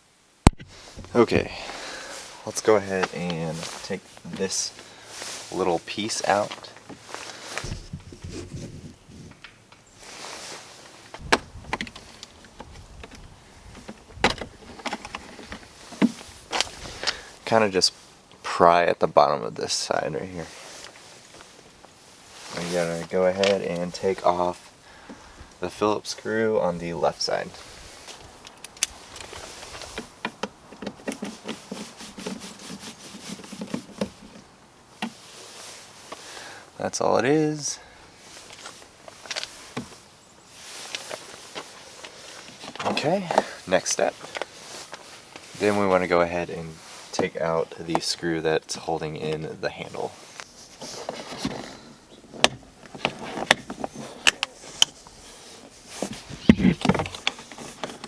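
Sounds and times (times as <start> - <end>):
handling and rustling: 0.5 - 18.8, 19.8 - 58.0.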